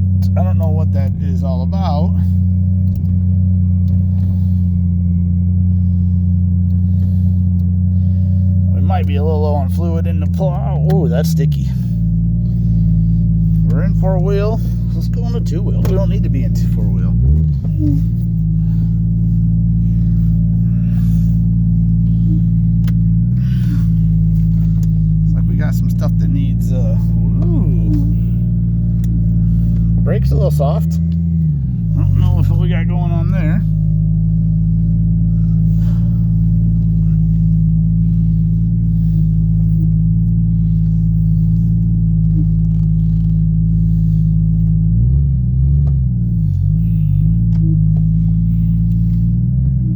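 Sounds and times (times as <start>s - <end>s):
car engine droning: 0.0s - 49.9s.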